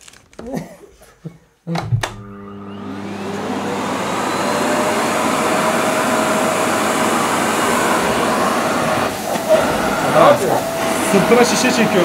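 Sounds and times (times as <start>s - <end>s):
vacuum cleaner motor whine: 2.0s - 12.0s.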